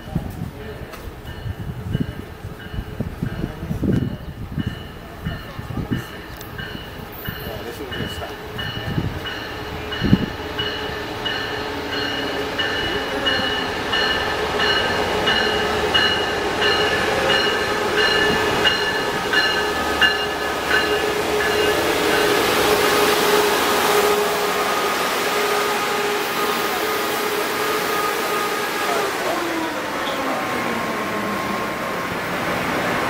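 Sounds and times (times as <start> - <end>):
train bell ringing: 0.0 - 27.4, 29.6 - 31.8
train cars rushing past: 0.0 - 33.0
diesel locomotive humming: 0.4 - 33.0.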